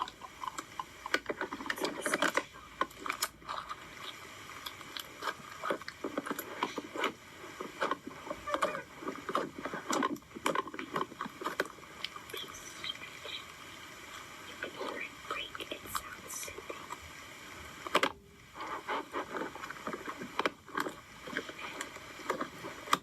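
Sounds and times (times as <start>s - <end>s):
small crackling pops: 0.0s - 23.0s.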